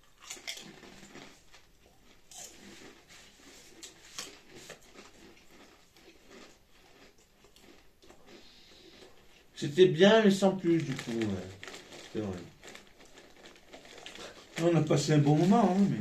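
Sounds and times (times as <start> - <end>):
crisps crunching while chewed: 0.0 - 16.0.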